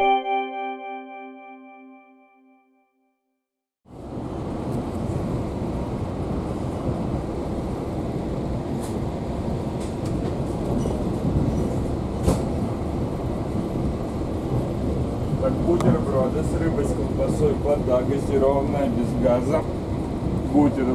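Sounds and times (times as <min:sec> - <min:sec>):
train rumble from inside coach: 0:03.9 - 0:20.9.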